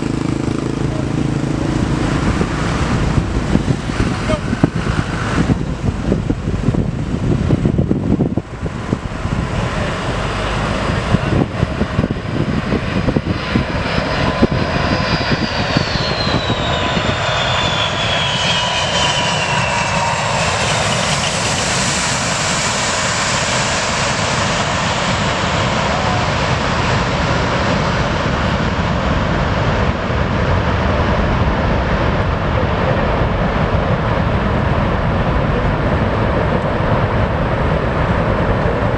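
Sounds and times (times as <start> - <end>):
high engine whine: 0.0 - 38.9
jet engines roaring: 0.0 - 38.9.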